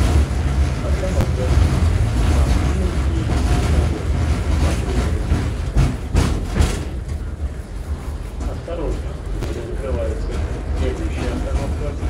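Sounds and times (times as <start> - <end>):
tram rumbling on rails: 0.0 - 12.0
wheels knocking: 0.0 - 12.0.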